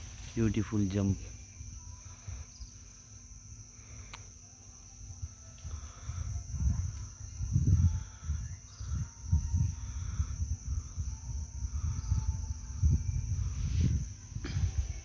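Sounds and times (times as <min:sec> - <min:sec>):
insects droning: 0:00.0 - 0:15.0
low rumbling on microphone: 0:01.2 - 0:15.0.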